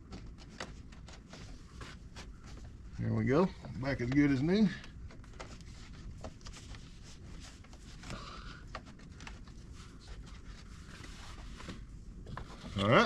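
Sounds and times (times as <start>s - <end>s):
low steady hum: 0.0s - 13.0s
rustling of plastic trim: 0.0s - 13.0s.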